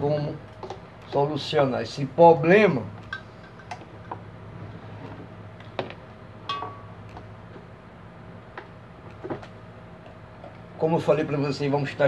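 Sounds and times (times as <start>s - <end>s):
fan motor humming: 0.0s - 12.0s.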